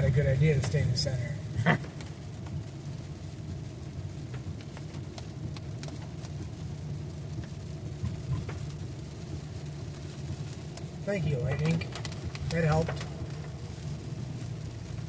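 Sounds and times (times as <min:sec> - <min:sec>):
car engine and tyre rumble: 0:00.0 - 0:15.0
light ticks: 0:01.8 - 0:11.0, 0:11.6 - 0:15.0.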